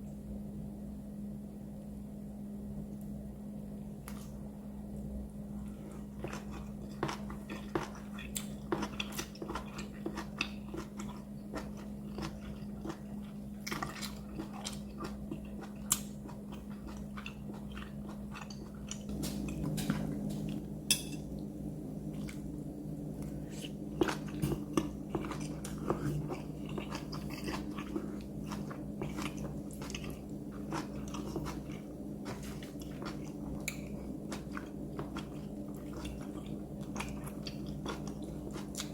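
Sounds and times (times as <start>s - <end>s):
steady low hum: 0.0s - 38.9s
person chewing crunchy food: 5.6s - 38.9s.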